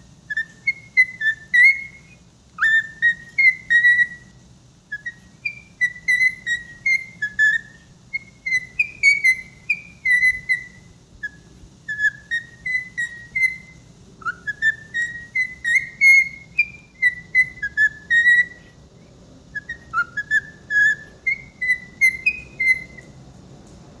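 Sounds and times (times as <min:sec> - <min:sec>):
bird whistling high beeping notes: 0:00.3 - 0:04.3, 0:04.9 - 0:18.6, 0:19.6 - 0:23.1.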